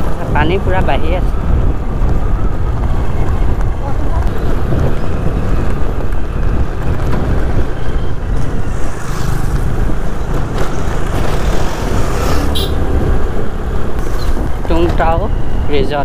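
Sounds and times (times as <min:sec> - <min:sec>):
tyres on rough road: 0:00.0 - 0:16.0
wind buffeting microphone: 0:00.0 - 0:16.0.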